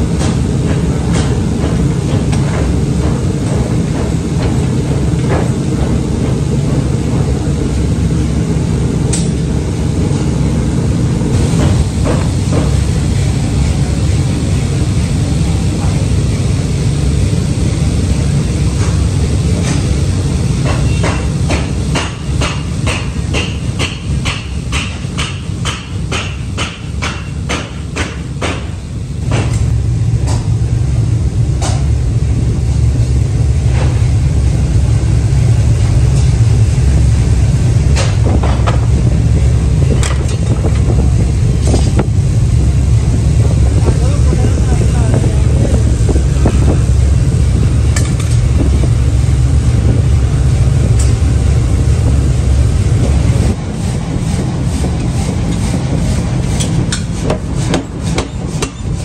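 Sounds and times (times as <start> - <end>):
forge furnace roaring: 0.0 - 59.0.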